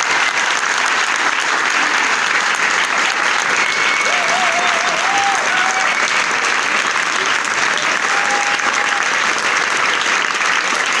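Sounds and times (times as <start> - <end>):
people applauding: 0.0 - 11.0.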